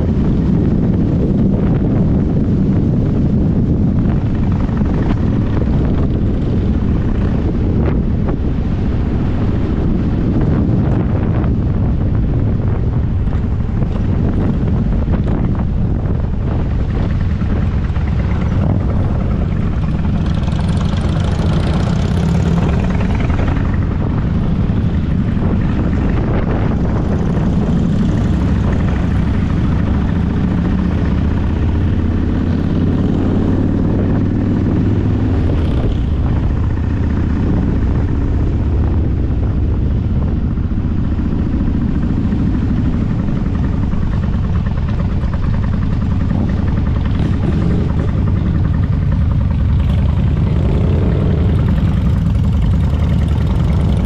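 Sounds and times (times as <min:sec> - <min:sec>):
vehicle engine droning: 0:00.0 - 0:54.0
wind on microphone: 0:00.0 - 0:54.0.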